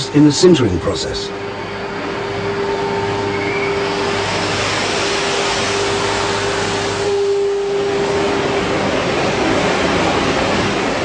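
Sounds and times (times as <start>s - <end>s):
steady hum: 0.0s - 11.0s
water and steam rushing hiss: 0.0s - 11.0s.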